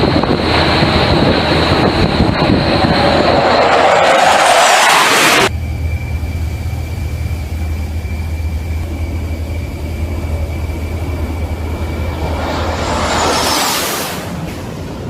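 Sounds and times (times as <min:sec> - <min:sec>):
faint high whine: 0:00.0 - 0:15.0
low engine drone: 0:00.0 - 0:15.0.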